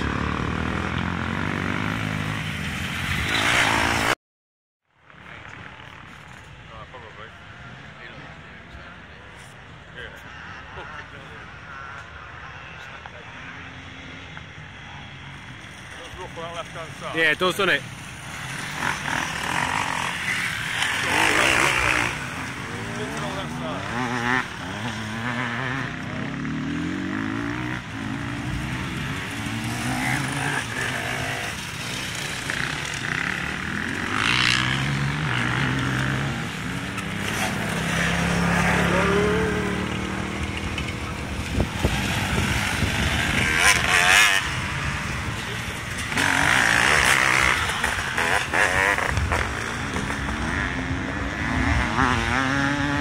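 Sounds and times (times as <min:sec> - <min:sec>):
dirt bike engines revving: 0:00.0 - 0:04.2, 0:05.1 - 0:53.0.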